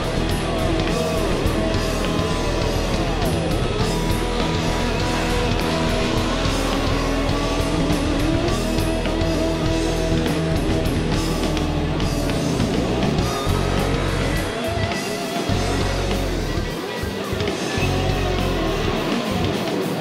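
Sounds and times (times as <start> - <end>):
electric guitar rock music: 0.0 - 20.0.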